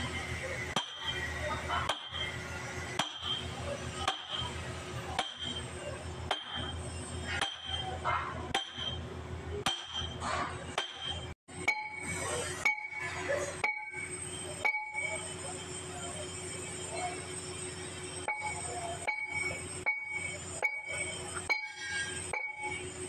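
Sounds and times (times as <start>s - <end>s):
steady low hum: 0.0s - 23.0s
hammer striking steel: 0.7s - 15.2s, 18.2s - 22.8s.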